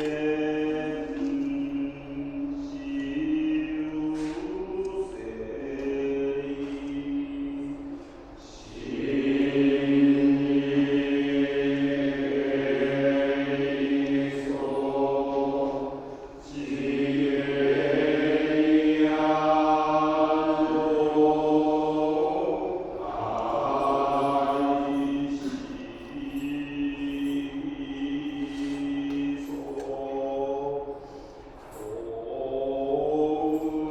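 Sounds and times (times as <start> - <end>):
monks chanting together: 0.0 - 33.9.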